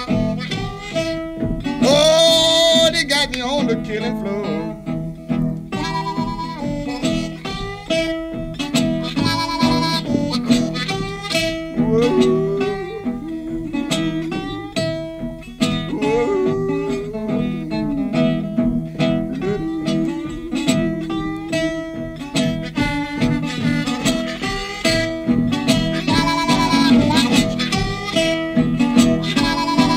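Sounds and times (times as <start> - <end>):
harmonica: 0.0 - 29.9
slide acoustic guitar: 0.0 - 29.9.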